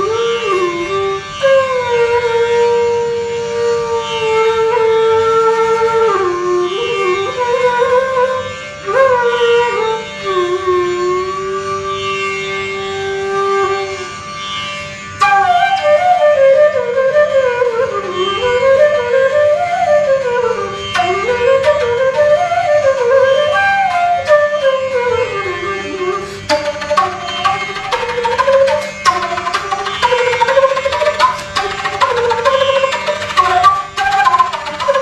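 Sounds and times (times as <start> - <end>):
bamboo flute melody: 0.0 - 12.2, 12.8 - 14.1, 15.2 - 35.0.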